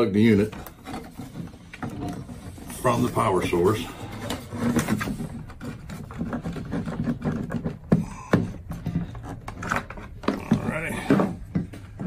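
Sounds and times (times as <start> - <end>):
box and cords handling noise: 0.0 - 12.0.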